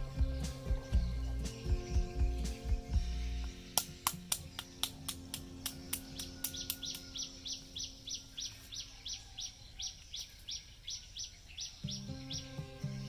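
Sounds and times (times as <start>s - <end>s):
bird chirping rapidly: 0.0s - 13.0s.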